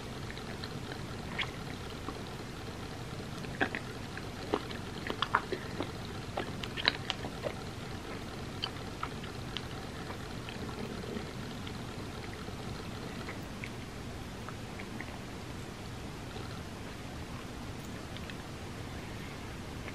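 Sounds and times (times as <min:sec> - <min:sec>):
wet chewing: 0:00.0 - 0:15.3, 0:17.3 - 0:18.5.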